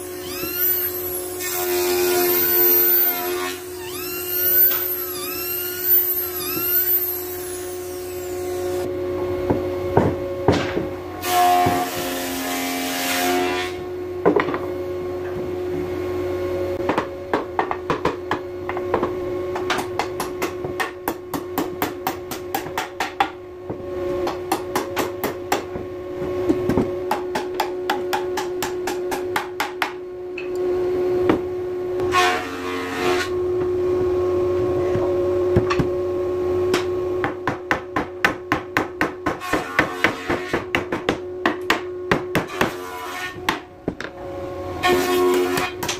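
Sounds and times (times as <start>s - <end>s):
steady background hum: 0.0s - 45.9s.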